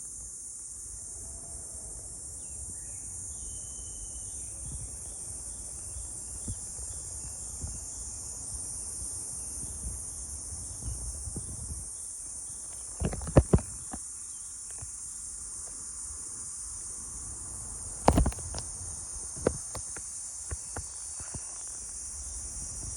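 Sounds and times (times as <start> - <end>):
insects chorus: 0.0 - 22.9.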